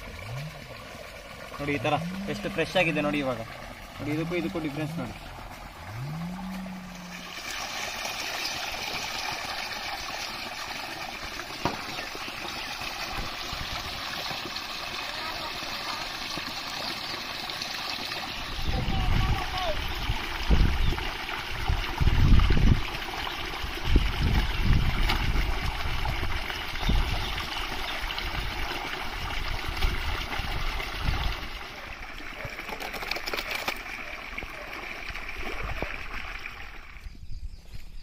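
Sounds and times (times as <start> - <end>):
water gushing from hose: 0.0 - 37.1.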